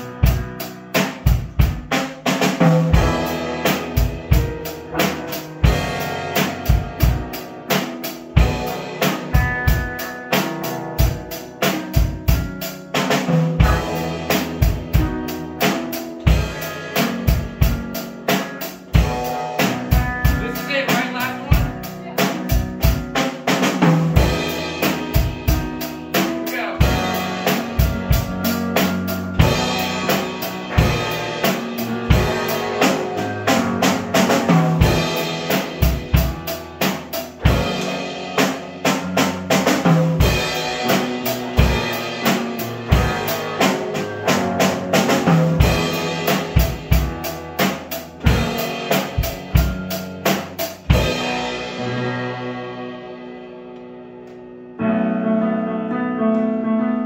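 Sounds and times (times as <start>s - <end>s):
drum kit rock beat: 0.0s - 54.1s
digital piano chords: 0.0s - 57.0s.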